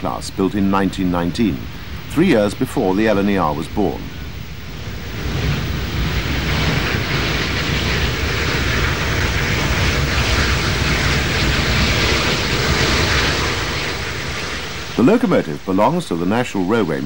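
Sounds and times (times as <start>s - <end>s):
steam locomotive exhaust roar: 0.0s - 17.0s.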